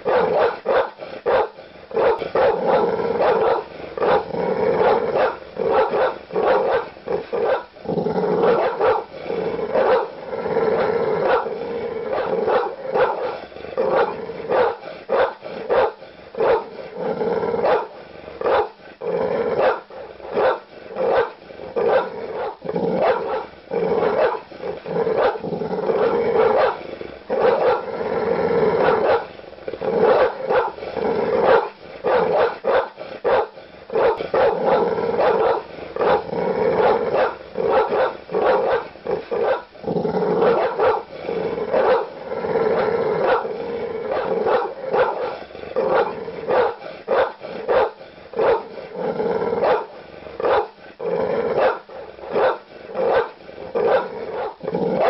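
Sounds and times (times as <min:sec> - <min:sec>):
large dog barking aggressively: 0:00.0 - 0:55.0.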